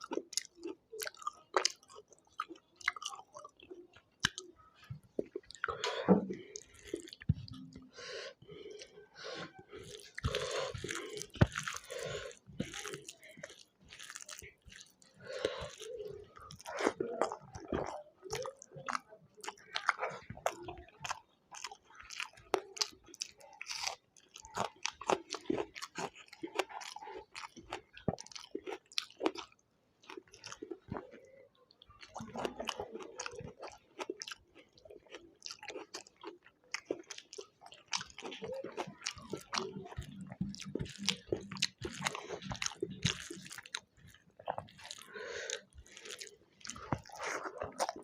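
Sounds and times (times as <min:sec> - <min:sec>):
person chewing with crunches: 0:00.0 - 0:48.0.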